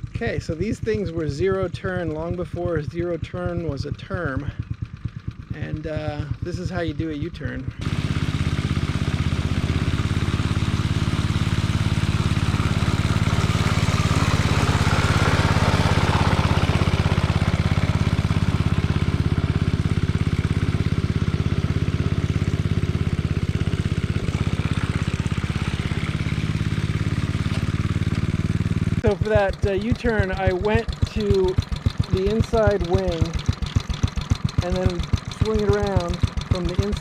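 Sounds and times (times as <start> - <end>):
reel mower engine drone: 0.0 - 37.0.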